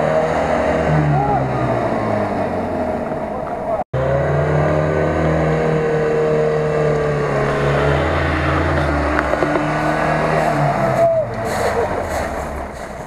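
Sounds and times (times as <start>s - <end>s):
off-road engine running under load: 0.0s - 13.0s.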